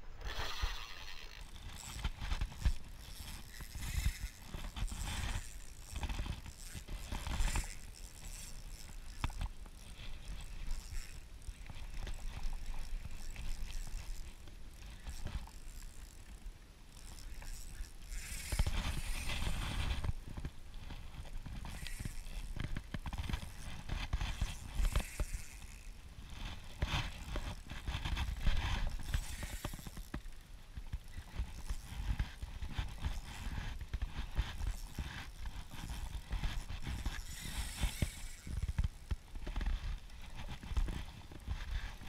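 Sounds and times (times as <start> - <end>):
spinning reel being cranked: 0.2 - 42.0.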